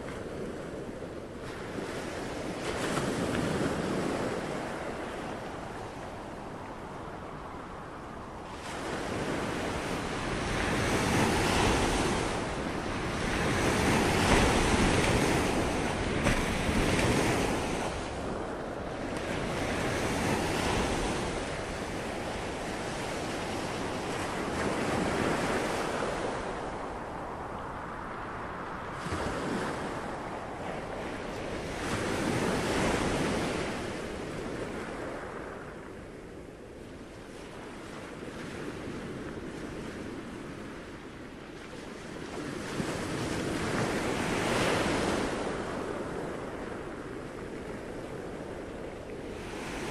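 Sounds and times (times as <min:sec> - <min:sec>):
ocean waves washing in: 0:00.0 - 0:49.9.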